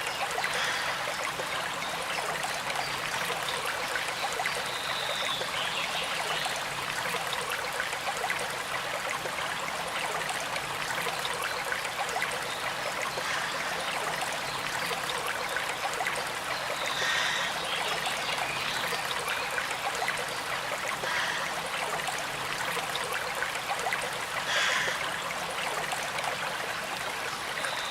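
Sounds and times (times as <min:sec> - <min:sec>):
river water flowing: 0:00.0 - 0:27.9.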